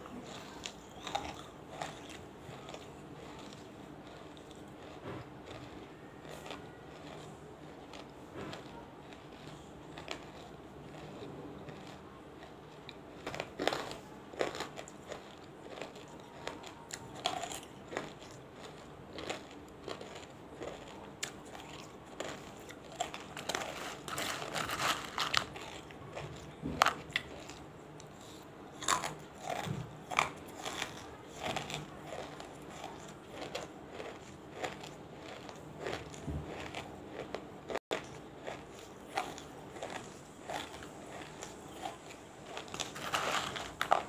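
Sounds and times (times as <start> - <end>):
crisp crunching while chewing: 0.1 - 44.0.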